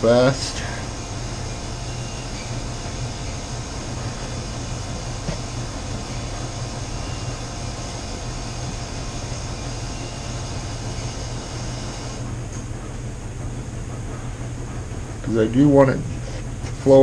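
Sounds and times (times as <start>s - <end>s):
household machines humming: 0.0s - 17.0s.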